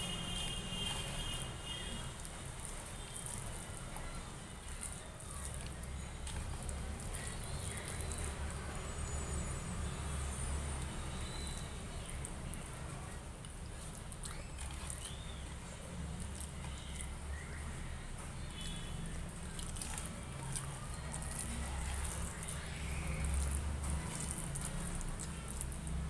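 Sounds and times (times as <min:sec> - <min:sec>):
fingers squishing food: 0:00.8 - 0:08.7, 0:10.7 - 0:26.0.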